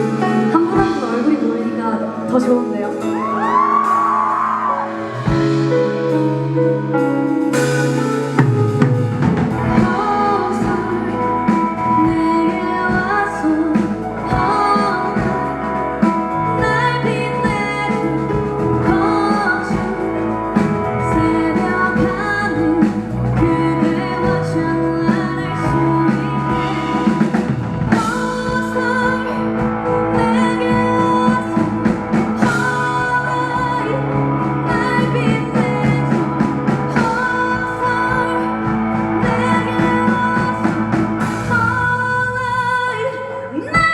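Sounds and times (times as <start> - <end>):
person singing: 0.0 - 43.9
rock band playing live: 0.0 - 43.9.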